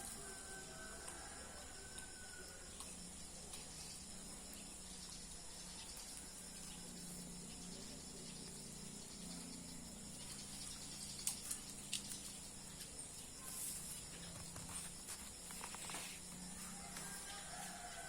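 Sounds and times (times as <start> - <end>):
steady low hum and hiss: 0.0 - 18.0.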